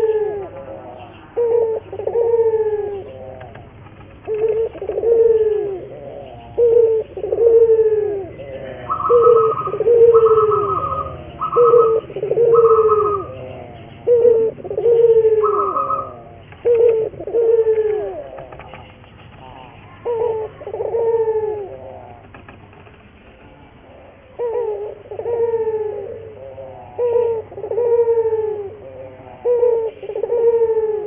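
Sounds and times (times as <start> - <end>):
collared dove cooing: 0.0 - 31.0.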